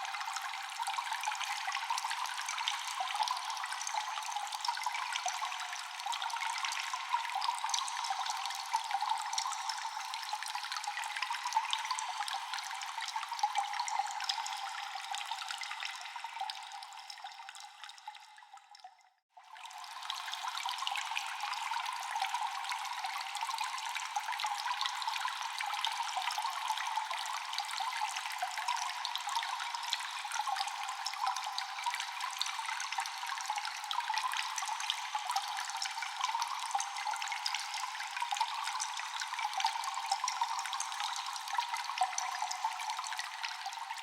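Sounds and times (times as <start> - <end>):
echoing water drips: 0.0 - 44.0.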